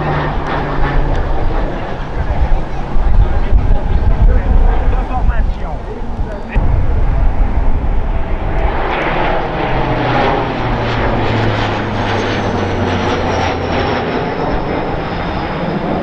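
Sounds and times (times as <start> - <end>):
aircraft engine drone with whine: 0.0 - 16.0.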